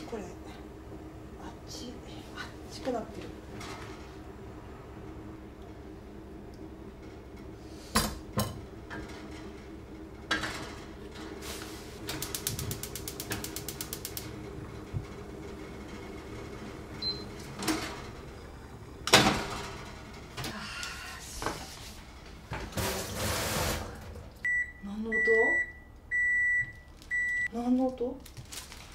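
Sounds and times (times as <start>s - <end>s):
steady low hum: 0.0s - 27.6s.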